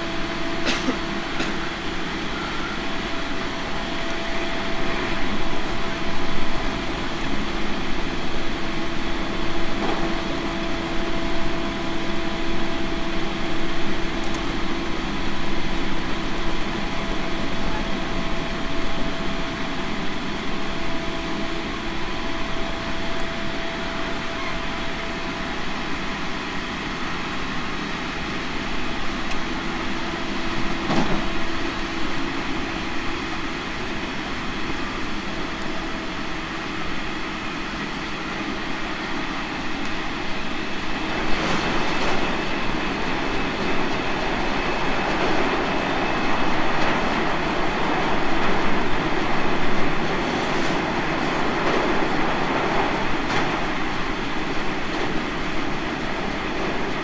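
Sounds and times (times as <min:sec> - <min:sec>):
electric train rolling rumble: 0:00.0 - 0:57.0.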